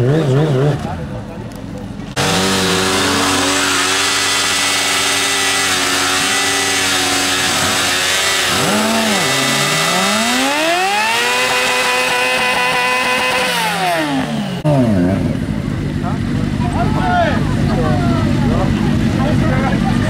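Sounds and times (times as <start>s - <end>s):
motorcycle engine revving: 0.0s - 1.3s, 1.9s - 20.0s.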